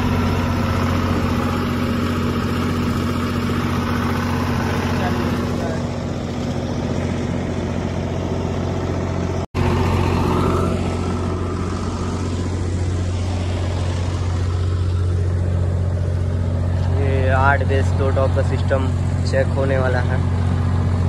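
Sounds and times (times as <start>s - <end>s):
diesel generator humming: 0.0s - 21.0s.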